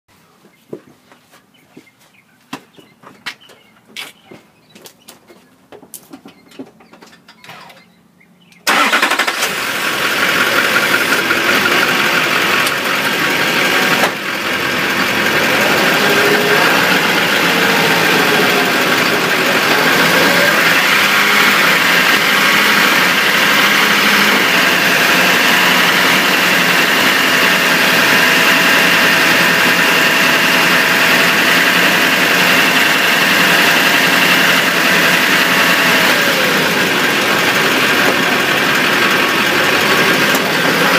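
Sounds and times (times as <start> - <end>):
diesel engine starting and running: 5.8 - 40.9.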